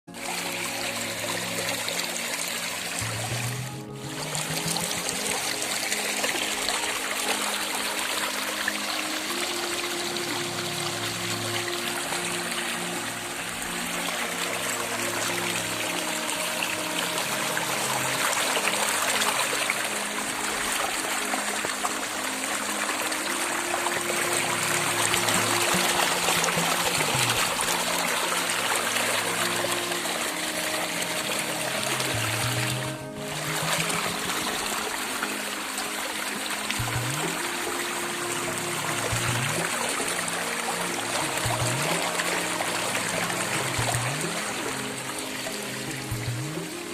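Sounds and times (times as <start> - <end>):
background music of low held notes: 0.0 - 46.9
water trickling: 0.1 - 46.9.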